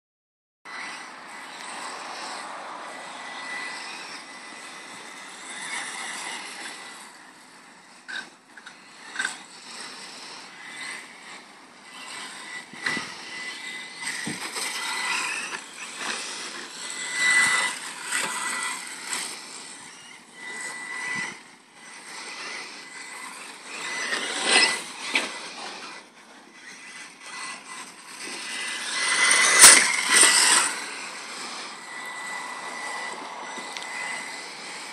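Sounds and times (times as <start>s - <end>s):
electric toy car motor whining: 0.7s - 34.9s.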